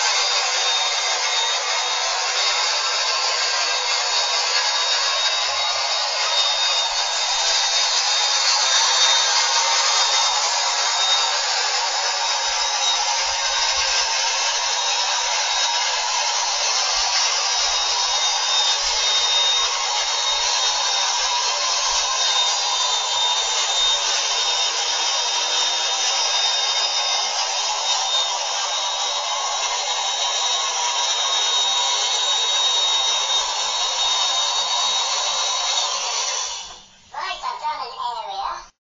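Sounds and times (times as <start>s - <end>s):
cleaner motor suction: 0.0s - 37.0s
thin high whine: 0.0s - 38.7s.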